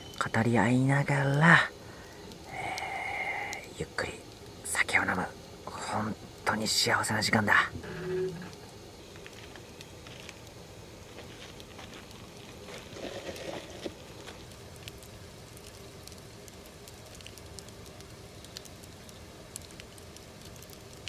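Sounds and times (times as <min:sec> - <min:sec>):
campfire crackling: 0:00.0 - 0:21.0
fire pops: 0:01.2 - 0:21.0.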